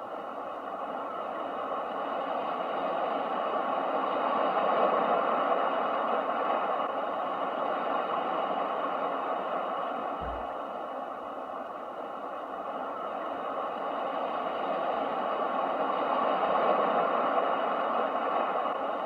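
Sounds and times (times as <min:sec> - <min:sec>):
ocean waves washing: 0:00.1 - 0:19.0.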